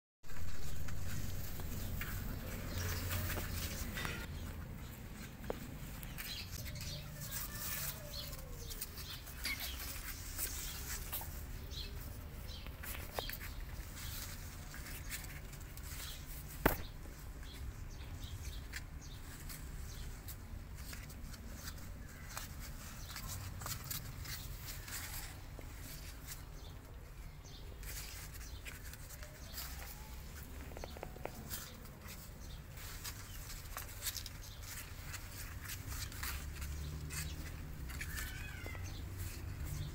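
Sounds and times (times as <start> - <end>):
scratching on cardboard: 0.3 - 39.9.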